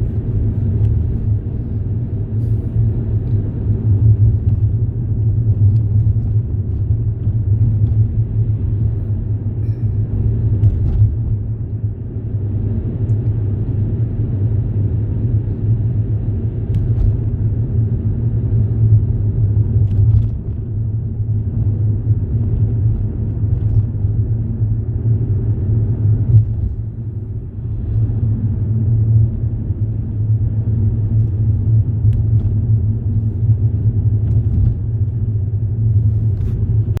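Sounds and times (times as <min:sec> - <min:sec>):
engine hum: 0:00.0 - 0:37.0
vehicle rumble: 0:00.0 - 0:37.0.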